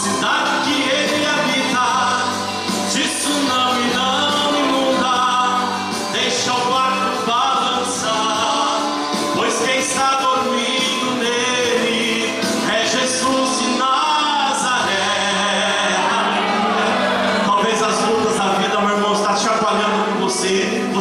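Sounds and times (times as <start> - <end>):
instrumental accompaniment: 0.0 - 21.0
man singing a hymn: 0.0 - 21.0.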